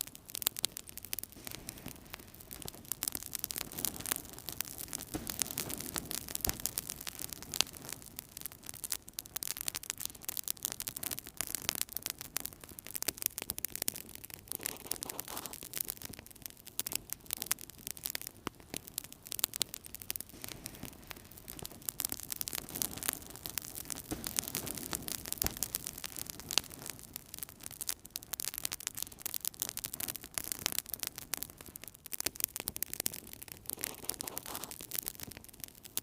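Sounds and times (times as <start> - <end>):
fire crackling and popping: 0.0 - 36.0
soft rush of flame: 0.3 - 27.8, 33.0 - 36.0.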